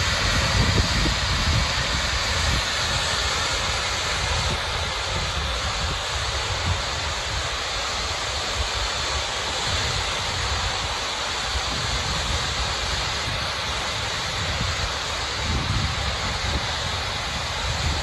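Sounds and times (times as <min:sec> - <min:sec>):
wind buffeting microphone: 0:00.0 - 0:07.6, 0:09.6 - 0:18.0
steady rushing hiss: 0:00.0 - 0:18.0.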